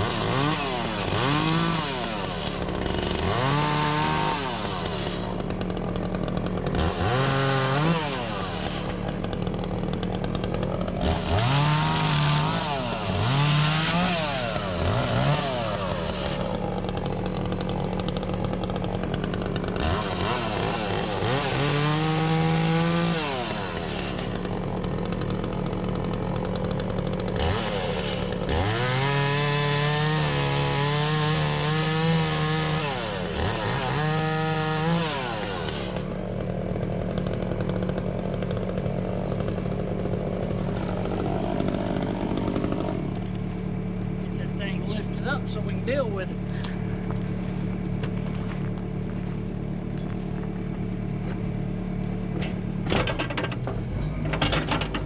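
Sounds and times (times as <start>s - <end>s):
chainsaw cutting logs: 0.0s - 55.0s
chainsaw revving: 0.0s - 55.0s.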